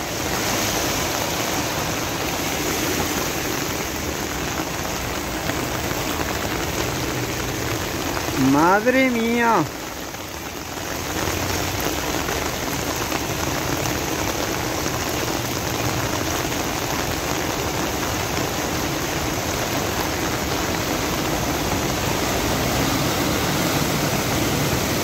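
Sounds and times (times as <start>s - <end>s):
floodwater running: 0.0s - 25.0s
heavy rain pouring: 0.0s - 25.0s.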